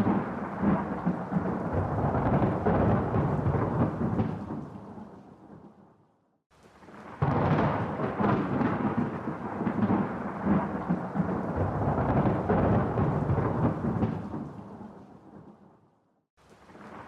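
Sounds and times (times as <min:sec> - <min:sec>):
thunder crack and rumble: 0:00.0 - 0:05.8, 0:07.0 - 0:15.6.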